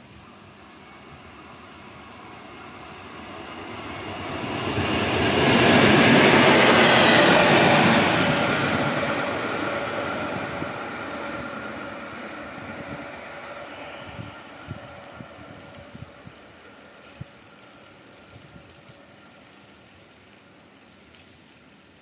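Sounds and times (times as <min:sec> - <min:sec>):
train passing at speed: 0:00.0 - 0:19.5
wheels rushing on rail: 0:00.0 - 0:19.8.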